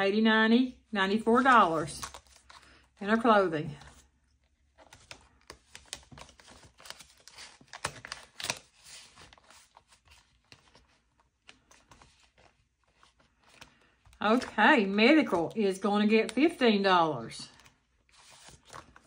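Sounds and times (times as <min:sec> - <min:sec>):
paper banknotes rustling: 0:01.2 - 0:16.8, 0:17.5 - 0:19.0.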